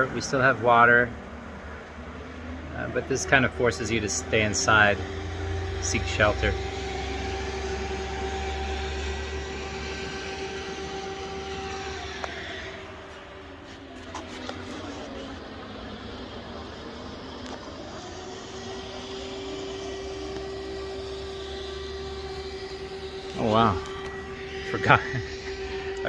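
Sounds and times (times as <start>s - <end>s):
air raid siren: 0.0s - 26.0s.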